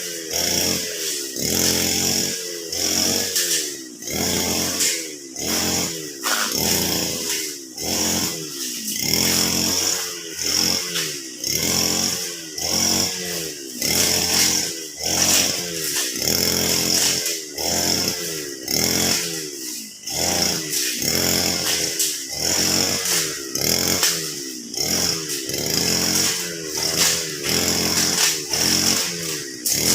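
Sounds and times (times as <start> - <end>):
brush cutter engine revving: 0.0 - 29.9.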